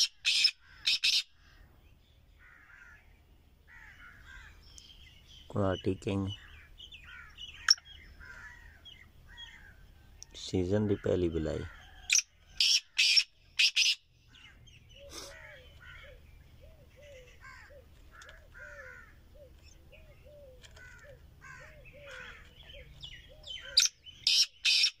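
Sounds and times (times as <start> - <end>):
bird sharp high-pitched calls: 0.0 - 1.7, 3.7 - 25.0.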